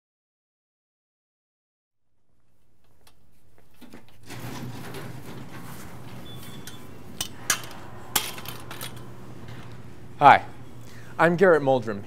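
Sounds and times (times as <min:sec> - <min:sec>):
low steady hum: 0:02.1 - 0:12.0.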